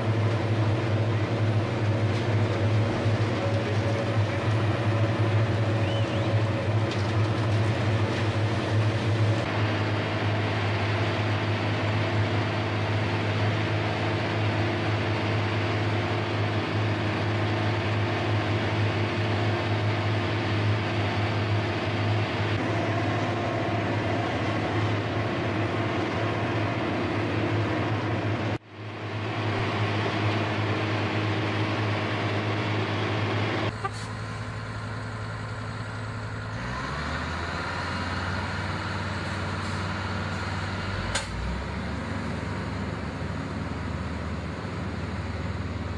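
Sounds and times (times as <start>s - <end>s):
heavy machinery engines humming: 0.0s - 45.9s.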